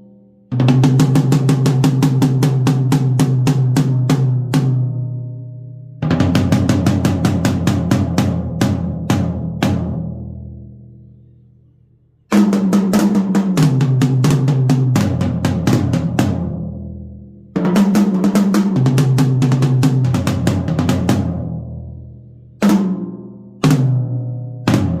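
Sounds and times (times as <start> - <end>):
drum tom fills: 0.5 - 5.1, 6.0 - 10.6, 12.3 - 16.9, 17.5 - 22.0, 22.6 - 25.0.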